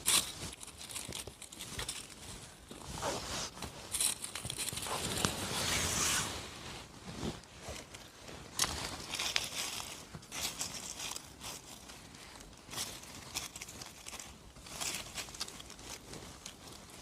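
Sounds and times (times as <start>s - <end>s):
rustling and crinkling handling: 0.0s - 17.0s.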